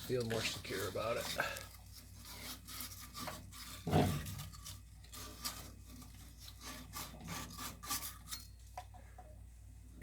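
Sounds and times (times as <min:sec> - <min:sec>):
sandpaper rubbing on pipe: 0:00.0 - 0:08.6.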